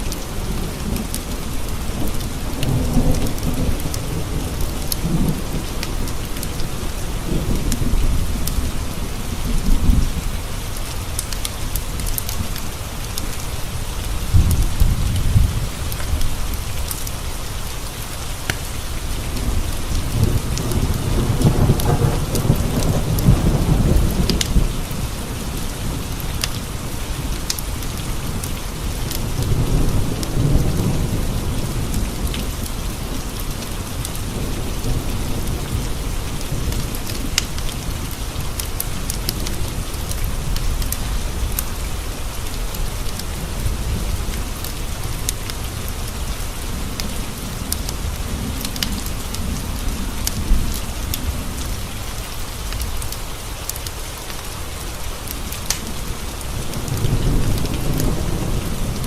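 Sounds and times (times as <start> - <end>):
thunder rumbling: 0.0 - 10.8, 13.6 - 16.9, 18.7 - 53.6, 54.9 - 59.0
steady rain: 0.0 - 59.0.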